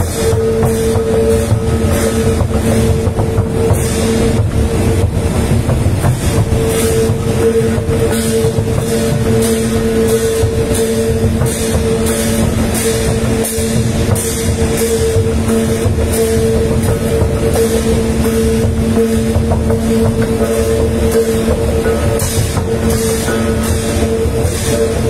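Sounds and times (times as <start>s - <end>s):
bass drum marching beat: 0.0s - 25.0s
steady low hum: 0.0s - 25.0s.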